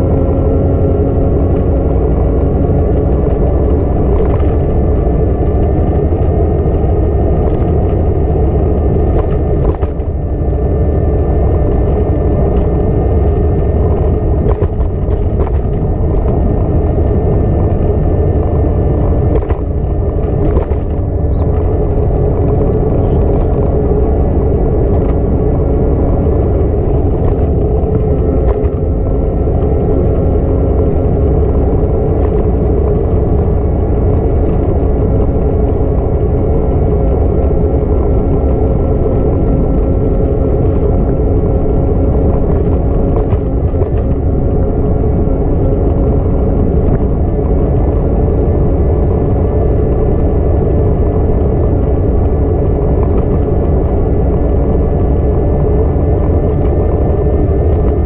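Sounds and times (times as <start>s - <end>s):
faint constant hum: 0.0s - 58.0s
low rumble: 0.0s - 58.0s
wind noise: 0.0s - 58.0s.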